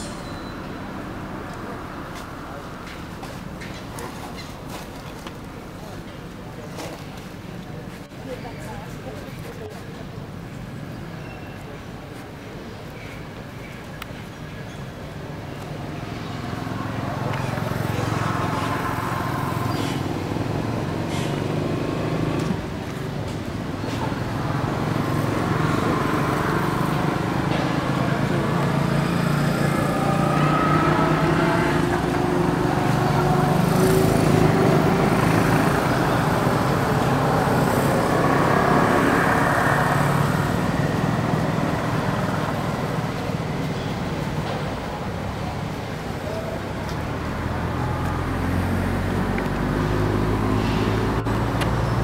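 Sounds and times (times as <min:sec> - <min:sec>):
road traffic rumble: 0:00.0 - 0:52.0
faint voices: 0:01.0 - 0:13.9, 0:22.3 - 0:51.8.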